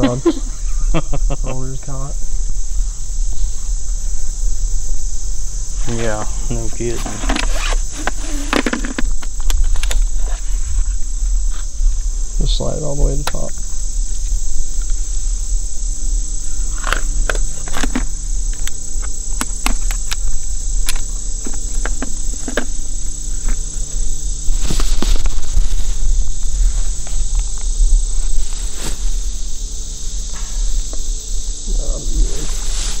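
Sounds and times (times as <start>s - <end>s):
chorus of insects: 0.0s - 33.0s
low hum and rumble: 0.0s - 33.0s.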